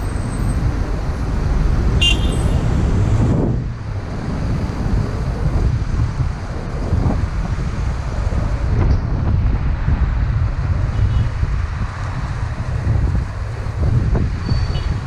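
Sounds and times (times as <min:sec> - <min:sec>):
car road noise: 0:00.0 - 0:15.0
wind rumbling on microphone: 0:00.0 - 0:15.0.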